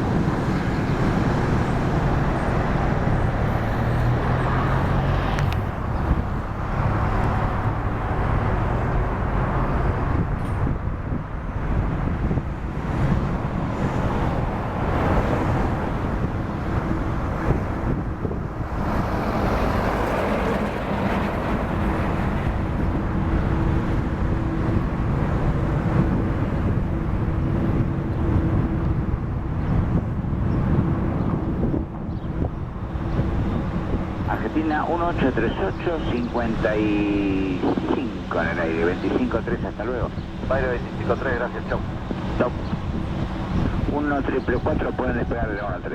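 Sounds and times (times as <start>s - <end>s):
aircraft roar: 0.0s - 45.9s.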